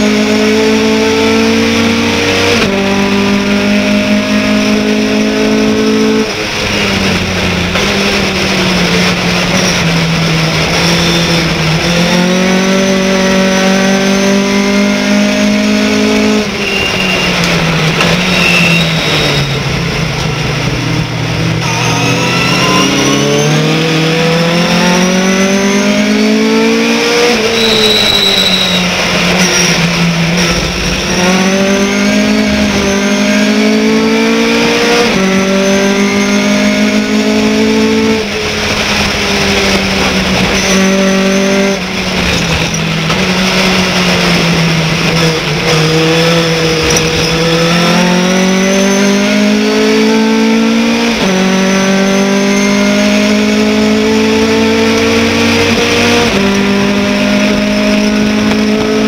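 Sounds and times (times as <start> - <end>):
truck engine at racing speed: 0.0 - 59.0.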